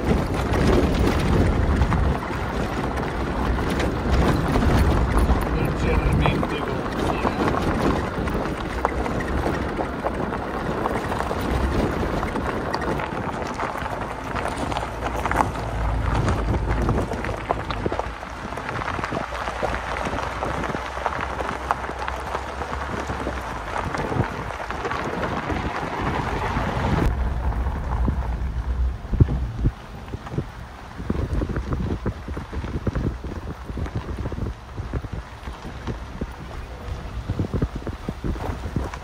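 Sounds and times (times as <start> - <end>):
engine rumble: 0.0 - 39.0
tyres crackling over stones: 0.0 - 39.0
wind buffeting microphone: 0.0 - 39.0.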